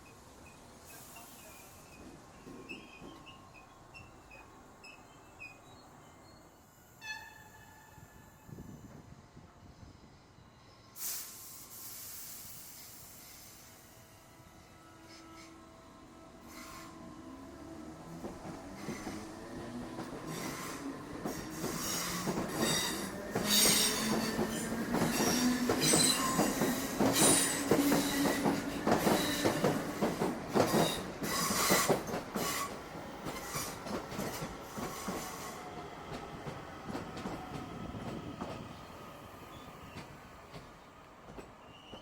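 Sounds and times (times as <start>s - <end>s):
train wheel squeal: 0.0s - 17.4s, 18.4s - 35.9s, 41.4s - 42.0s.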